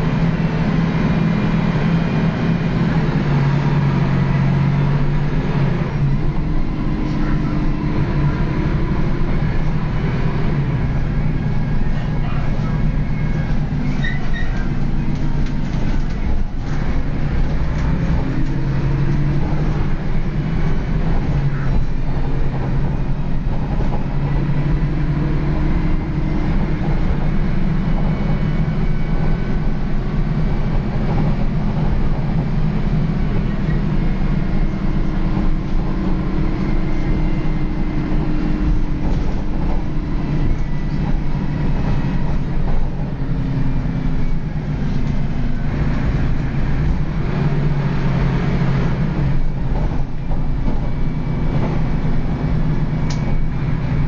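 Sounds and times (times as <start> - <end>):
bus diesel engine: 0.0 - 54.0
bus interior rattling: 0.0 - 54.0.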